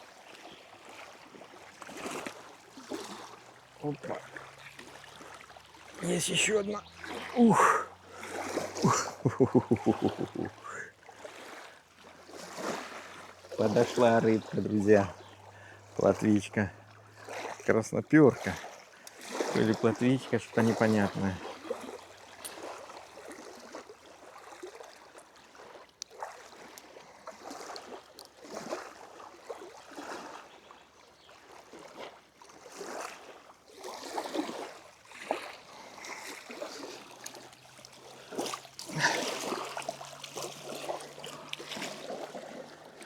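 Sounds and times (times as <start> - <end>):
water trickling and lapping: 0.0 - 43.0.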